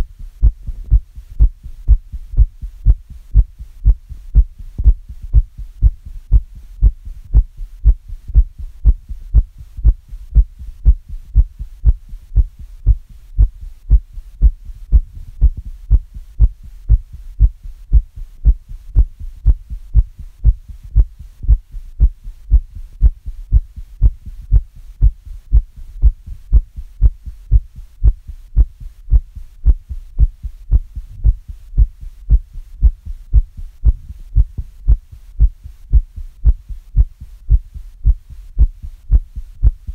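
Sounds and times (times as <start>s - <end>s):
heartbeat thuds: 0.0s - 39.9s.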